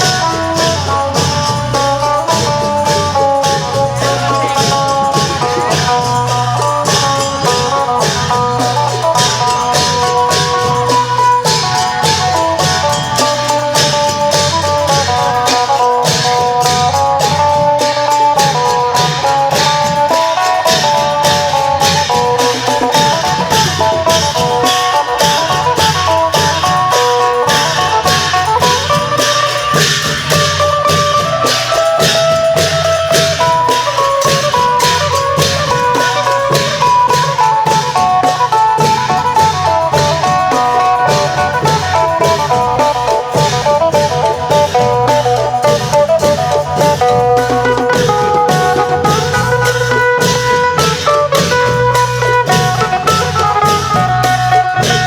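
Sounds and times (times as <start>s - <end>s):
long drums and percussion: 0.0s - 55.0s
plucked lute melody: 0.0s - 55.0s.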